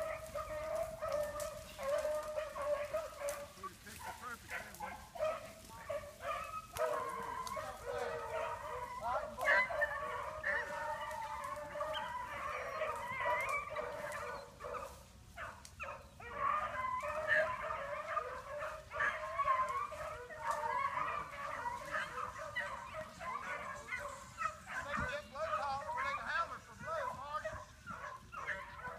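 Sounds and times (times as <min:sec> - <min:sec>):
dogs baying in chorus: 0:00.0 - 0:28.9.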